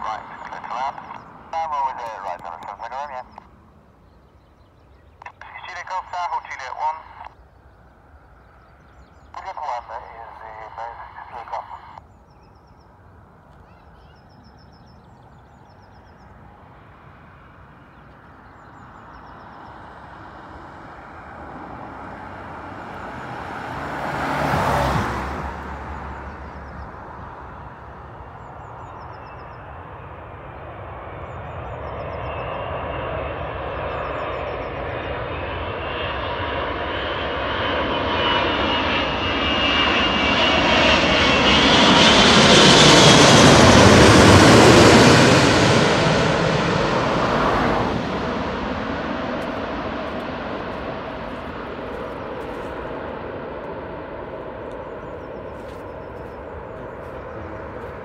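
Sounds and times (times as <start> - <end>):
airliner engines whining overhead: 0.0 - 58.0.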